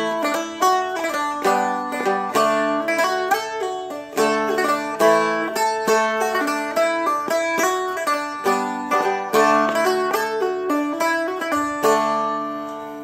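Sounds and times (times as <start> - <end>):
strumstick picking melody notes: 0.0 - 13.0.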